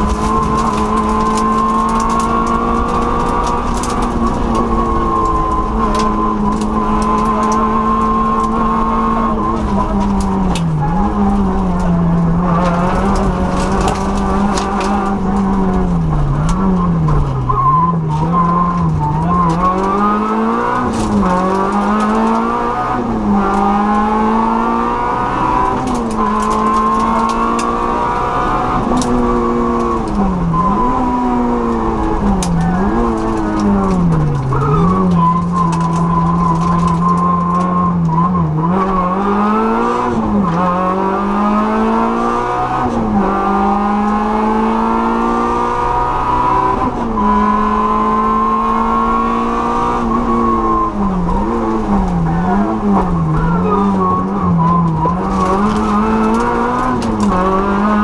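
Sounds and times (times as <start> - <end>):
rally car engine accelerating: 0.0 - 58.0.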